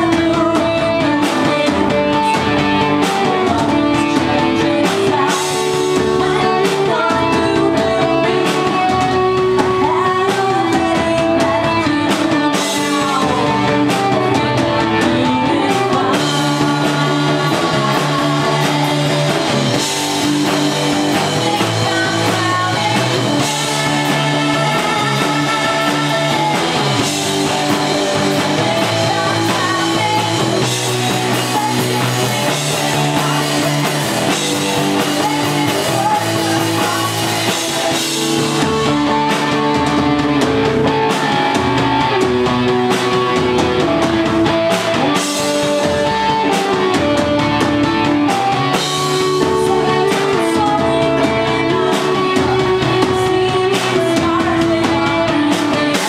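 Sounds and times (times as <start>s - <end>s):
woman singing: 0.0s - 40.1s, 40.8s - 56.0s
rock band playing: 0.0s - 56.0s.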